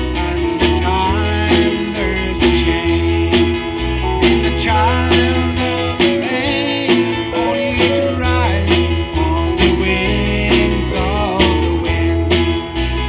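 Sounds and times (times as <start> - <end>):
man singing: 0.0 - 12.6
bass guitar: 0.0 - 13.0
drums keeping steady beat: 0.0 - 13.0
strummed acoustic guitar: 0.0 - 13.0.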